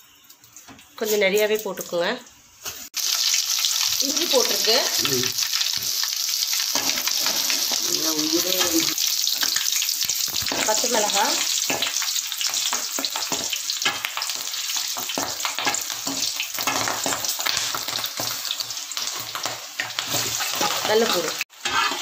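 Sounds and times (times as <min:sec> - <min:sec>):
food sizzling and crackling in oil: 0:00.0 - 0:22.0.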